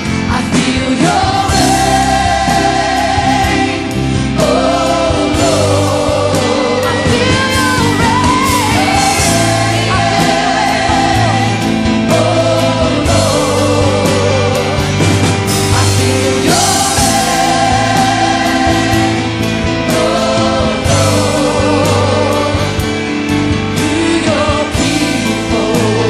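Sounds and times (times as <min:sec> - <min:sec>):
band accompaniment: 0:00.0 - 0:26.0.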